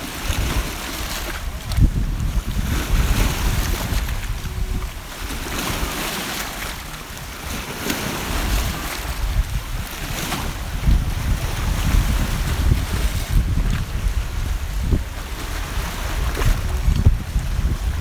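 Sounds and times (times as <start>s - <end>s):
sea surf washing: 0.0s - 18.0s
wind buffeting microphone: 0.0s - 18.0s.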